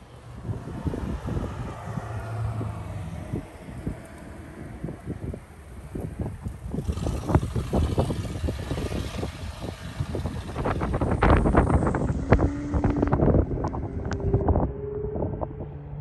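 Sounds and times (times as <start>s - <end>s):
car traffic: 0.0s - 16.0s
wind buffeting microphone: 0.2s - 16.0s.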